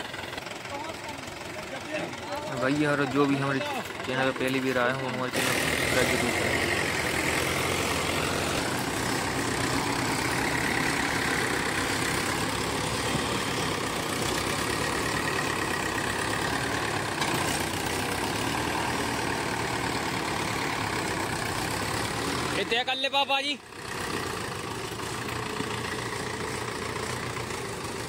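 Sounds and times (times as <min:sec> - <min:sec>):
diesel tractor engines under load: 0:00.0 - 0:28.0.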